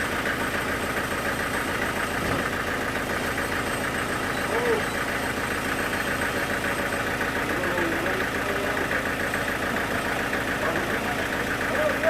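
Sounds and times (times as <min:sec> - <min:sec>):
sawmill engine pulsing: 0:00.0 - 0:12.0.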